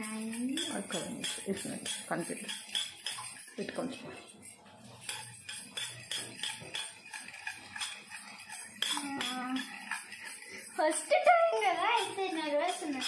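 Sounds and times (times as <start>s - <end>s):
spoon clinking against metal bowl: 0.0s - 13.0s.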